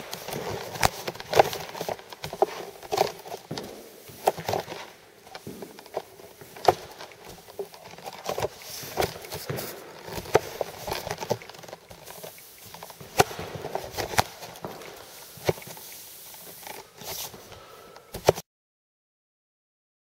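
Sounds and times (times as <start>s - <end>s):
applicator scraping across wooden floor: 0.0s - 18.4s.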